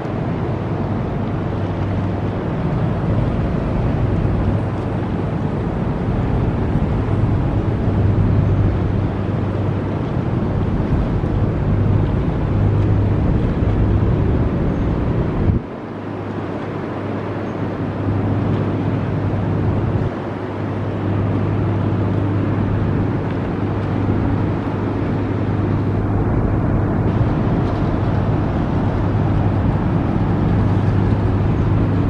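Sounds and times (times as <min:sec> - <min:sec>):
broad rushing noise: 0:00.0 - 0:32.0
ship engines droning: 0:00.0 - 0:32.0.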